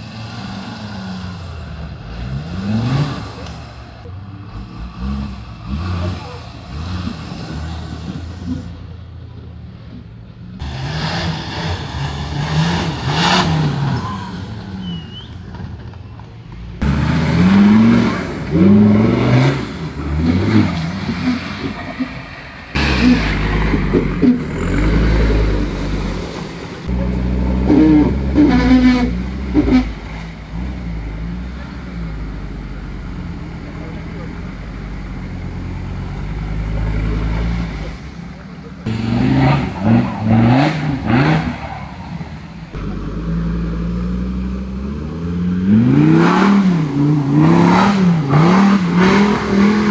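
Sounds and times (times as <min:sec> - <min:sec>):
engine revving under load: 0:00.0 - 0:09.0, 0:10.6 - 0:16.0, 0:16.8 - 0:49.9.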